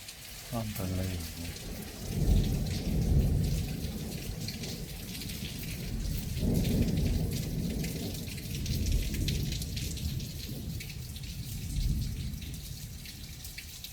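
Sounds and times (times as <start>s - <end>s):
torrential rain: 0.0s - 13.9s
low rolling thunder: 1.5s - 13.0s.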